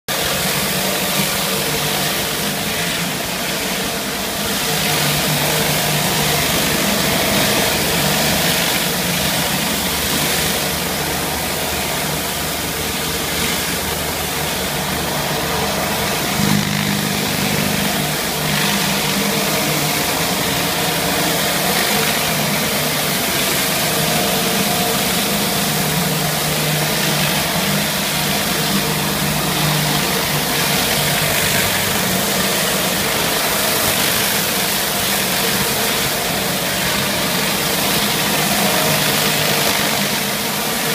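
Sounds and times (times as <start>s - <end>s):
pressure washer engine hum: 0.1s - 40.9s.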